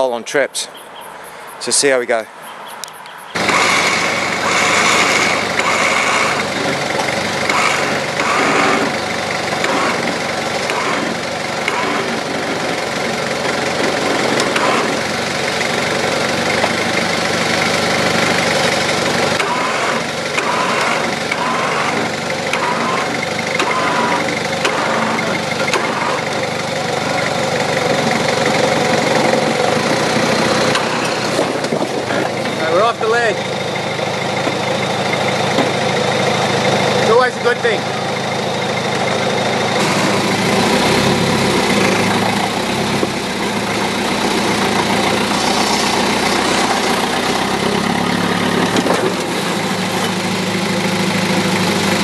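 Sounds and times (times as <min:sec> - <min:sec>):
diesel engine running at low revs: 0:02.8 - 0:52.0.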